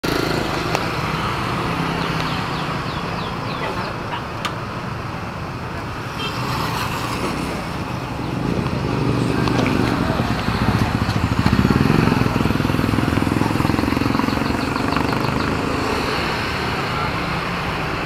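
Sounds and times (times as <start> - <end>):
vehicle engines running: 0.0 - 18.0.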